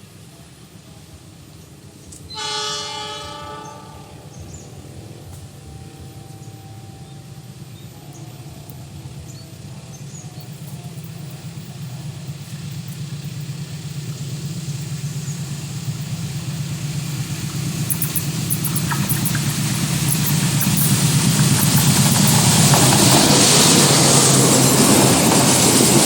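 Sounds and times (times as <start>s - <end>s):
train engine rumble: 0.0s - 26.0s.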